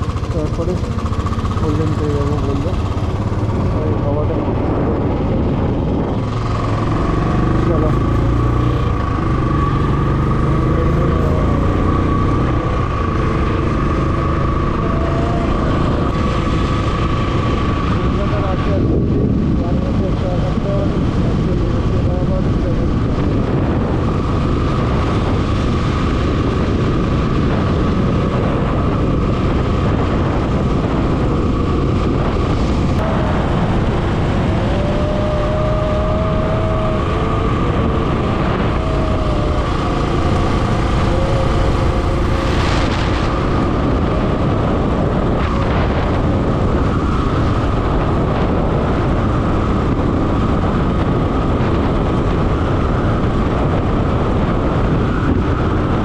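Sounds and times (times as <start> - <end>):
motorcycle engine at speed: 0.0 - 56.0
wind rushing on microphone: 0.0 - 56.0.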